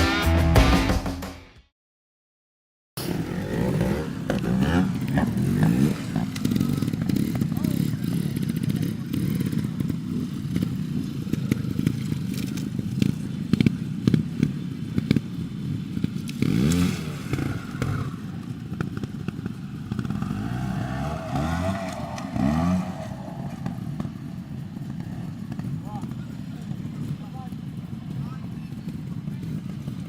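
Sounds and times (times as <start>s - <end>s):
motorcycle clattering over rough ground: 3.0s - 30.0s
motorcycle engine revving: 3.0s - 30.0s.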